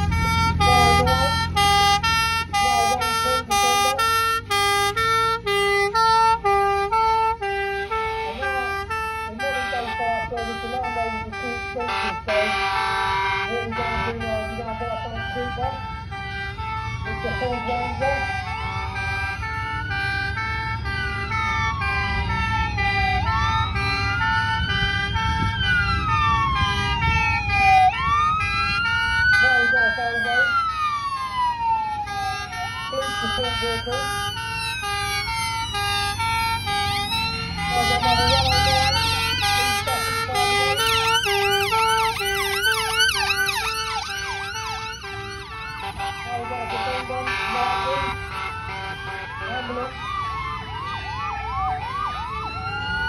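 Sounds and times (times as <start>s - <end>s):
low vehicle rumble: 0.0s - 53.0s
two-tone siren: 0.0s - 53.0s
wailing siren: 0.0s - 53.0s.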